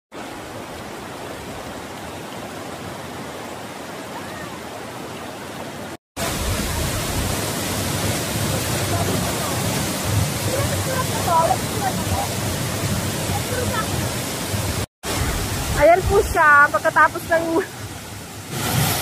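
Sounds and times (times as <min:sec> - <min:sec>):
rushing water: 0:00.1 - 0:19.0.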